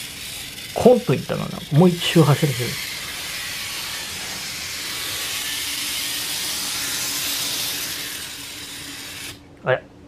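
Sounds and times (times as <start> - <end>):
model train whirring on rails: 0.0 - 9.4.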